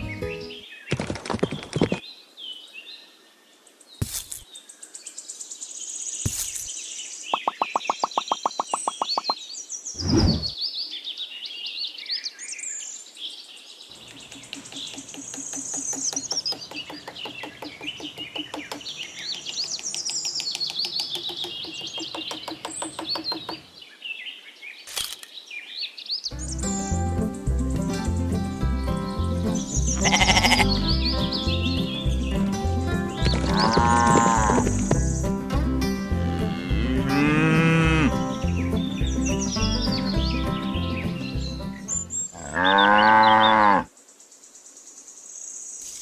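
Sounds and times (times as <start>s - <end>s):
small birds chirping: 0.0s - 35.6s, 37.0s - 46.0s.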